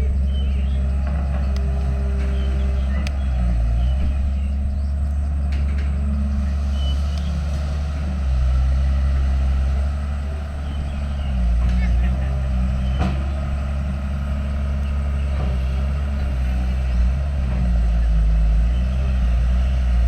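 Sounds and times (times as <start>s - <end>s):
diesel engine of heavy machine: 0.0s - 20.0s.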